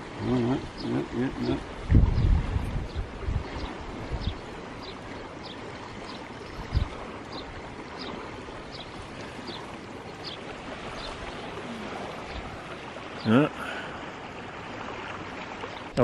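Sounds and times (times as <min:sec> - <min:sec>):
water at the shore: 0:00.0 - 0:16.0
wind: 0:00.0 - 0:16.0.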